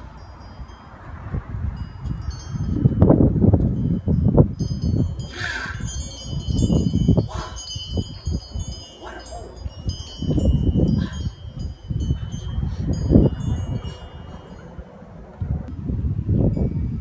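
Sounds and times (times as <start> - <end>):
high ringing tones: 0.0 - 15.7
wind rumble on microphone: 0.0 - 17.0.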